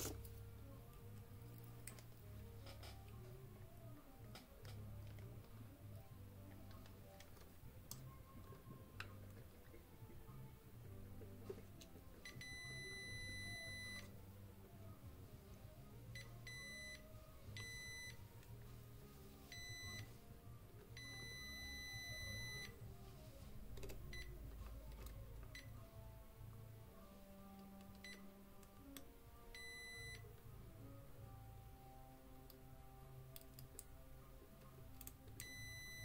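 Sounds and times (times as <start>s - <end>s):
soft faint music: 0.0s - 36.0s.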